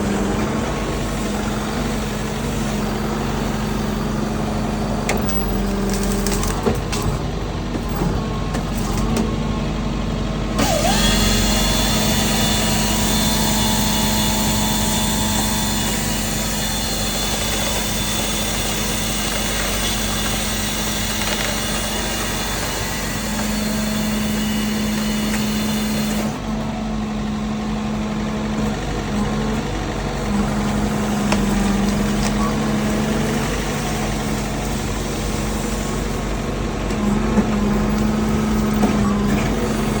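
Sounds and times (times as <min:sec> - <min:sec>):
loader engine running: 0:00.0 - 0:40.0.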